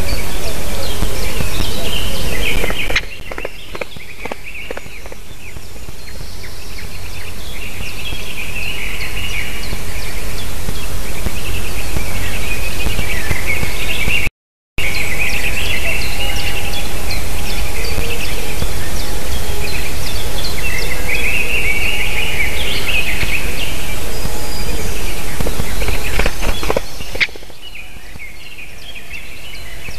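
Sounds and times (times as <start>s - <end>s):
birds chattering and twittering: 0.0s - 29.9s.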